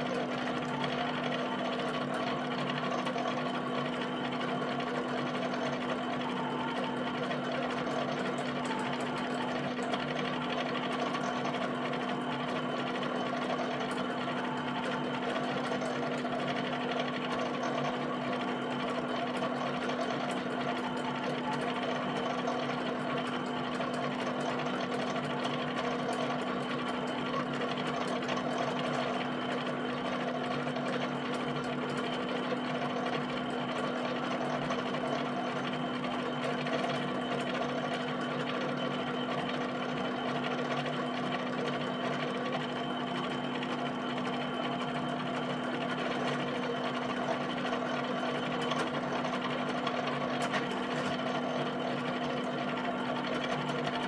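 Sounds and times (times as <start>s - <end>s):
plotter motors humming: 0.0s - 54.0s.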